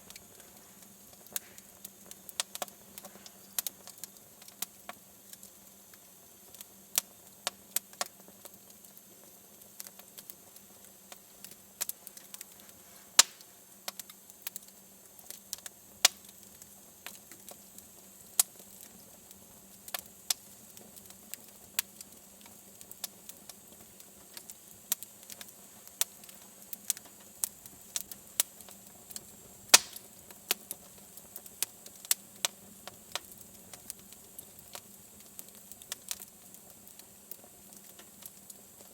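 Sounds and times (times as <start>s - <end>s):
faint hiss: 0.0s - 38.9s
wood fire crackling and popping: 0.0s - 38.9s.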